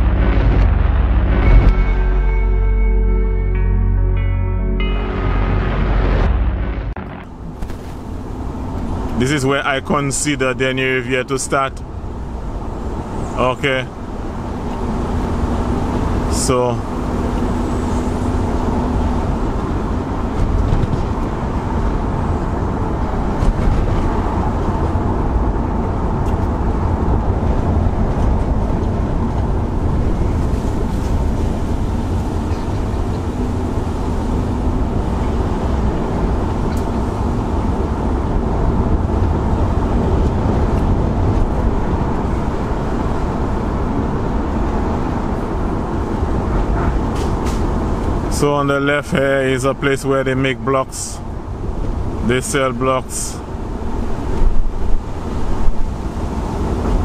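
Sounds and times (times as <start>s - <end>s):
road and engine noise inside car: 0.0s - 2.0s, 4.8s - 57.0s.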